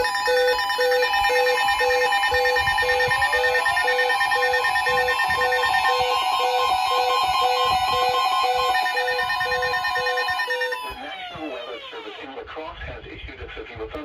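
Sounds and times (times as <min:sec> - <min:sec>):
pulsing electronic beep: 0:00.0 - 0:12.2
rising electronic sweep: 0:00.0 - 0:12.2
steady high electronic tones: 0:00.0 - 0:12.3.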